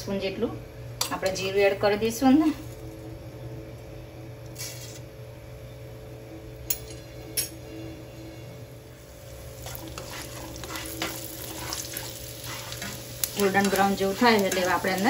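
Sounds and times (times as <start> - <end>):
faint sizzle: 0.0 - 15.0
steady low hum: 0.0 - 15.0.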